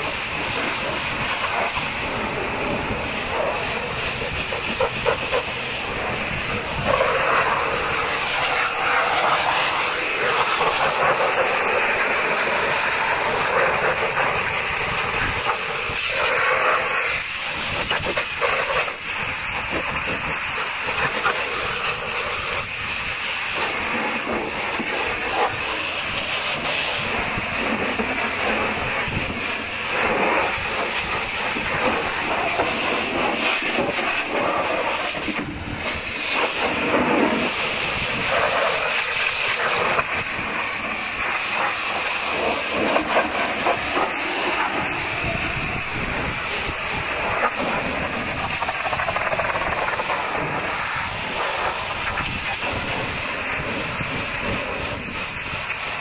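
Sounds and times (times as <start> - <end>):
pressure washer water hiss: 0.0 - 56.0.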